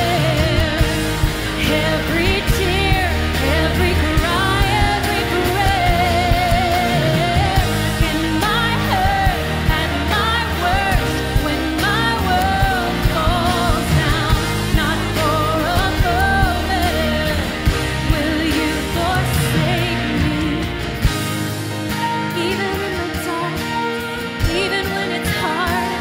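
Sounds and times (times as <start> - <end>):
voices singing: 0.0 - 21.2
band with steady beat: 0.0 - 26.0.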